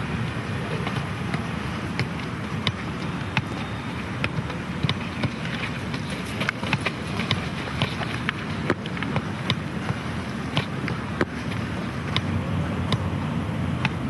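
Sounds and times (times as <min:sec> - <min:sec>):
ball tapping off foot: 0:00.7 - 0:13.1, 0:13.8 - 0:14.0.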